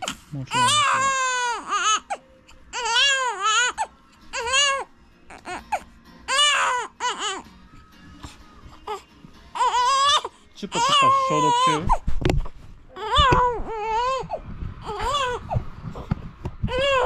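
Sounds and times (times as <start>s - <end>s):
newborn baby crying: 0.0s - 7.5s, 8.7s - 12.1s, 12.9s - 15.6s, 16.7s - 17.0s.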